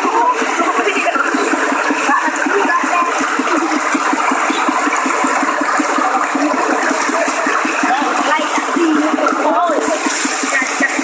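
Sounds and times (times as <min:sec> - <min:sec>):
floodwater rushing and splashing: 0:00.0 - 0:11.0.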